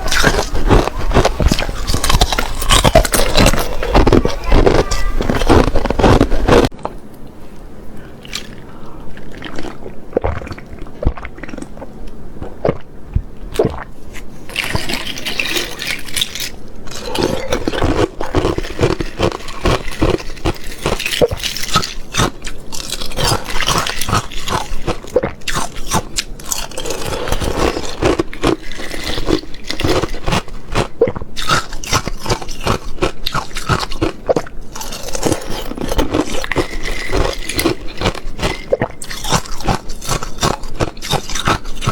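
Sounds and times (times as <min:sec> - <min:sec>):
ice being crunched by teeth: 0:00.0 - 0:06.7, 0:14.5 - 0:41.9.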